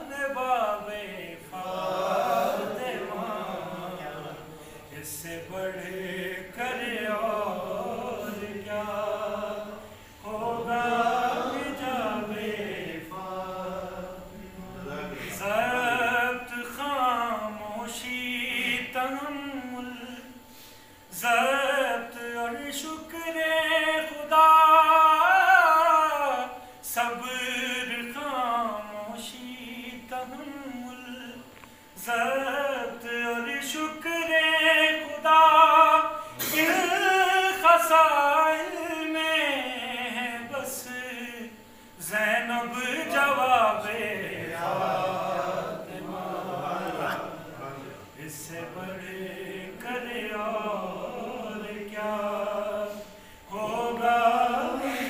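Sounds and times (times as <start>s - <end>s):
man singing unaccompanied: 0.0s - 55.0s.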